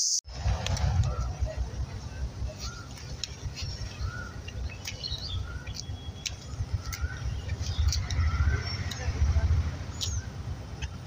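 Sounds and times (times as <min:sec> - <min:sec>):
birds chirping: 0:00.0 - 0:11.0
steady low rumble: 0:00.3 - 0:11.0.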